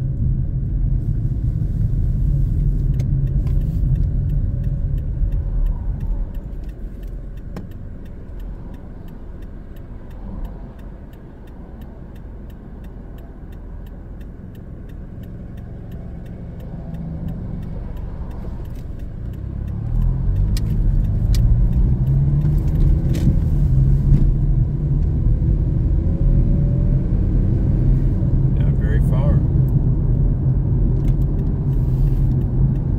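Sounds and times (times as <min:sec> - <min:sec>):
car engine and road rumble: 0:00.0 - 0:32.9
faint regular ticking: 0:00.1 - 0:27.0, 0:27.6 - 0:32.9.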